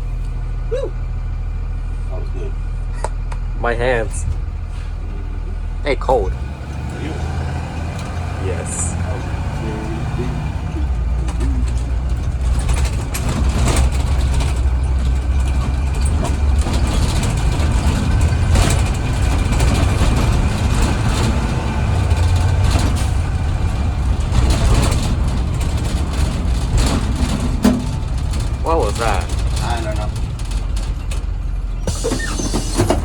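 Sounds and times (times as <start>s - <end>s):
bus engine and road rumble: 0.0s - 33.0s
rattles and knocks from bus body: 6.3s - 33.0s.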